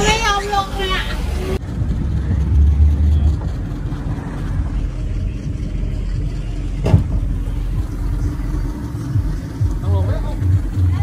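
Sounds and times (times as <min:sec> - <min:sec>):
motorboat engine rumbling: 0:00.0 - 0:11.0.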